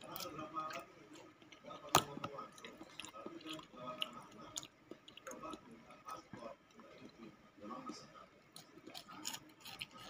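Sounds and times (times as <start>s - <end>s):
wet chewing of soft fruit: 0.0s - 10.0s.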